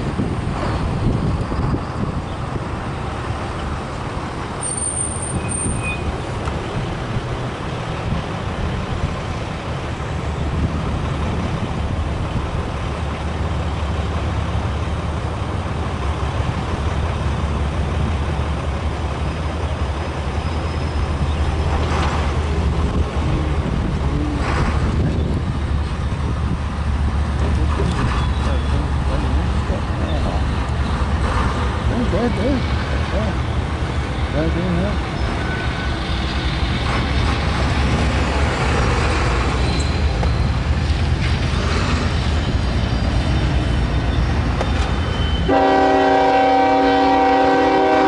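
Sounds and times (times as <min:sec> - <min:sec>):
engine rumble: 0:00.0 - 0:48.0
road noise: 0:00.0 - 0:48.0.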